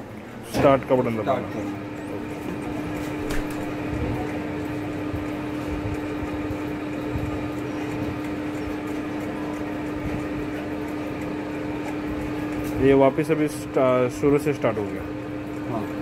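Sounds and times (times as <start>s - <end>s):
dough mixer motor hum: 0.0s - 16.0s.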